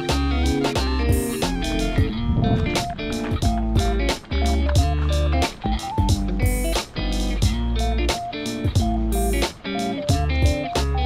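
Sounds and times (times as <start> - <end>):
instrumental guitar music with beat: 0.0 - 11.0.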